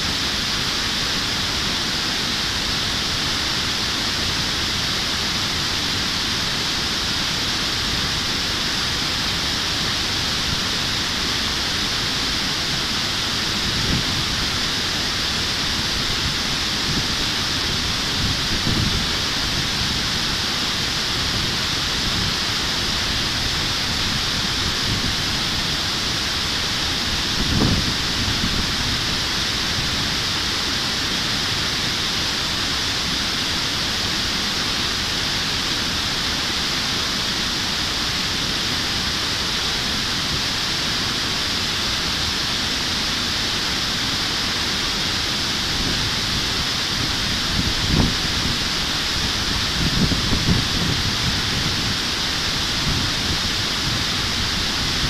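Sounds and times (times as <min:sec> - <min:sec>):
water rushing over weir: 0:00.0 - 0:55.0.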